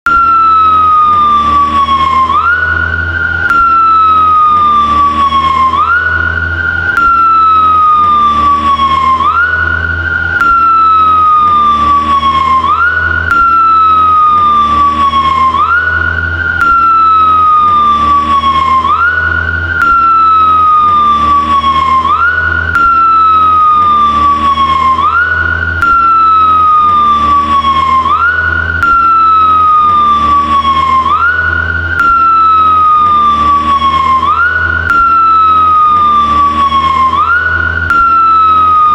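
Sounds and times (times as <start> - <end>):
low engine hum: 0.0 - 38.9
motorcycle siren wailing: 0.0 - 38.9.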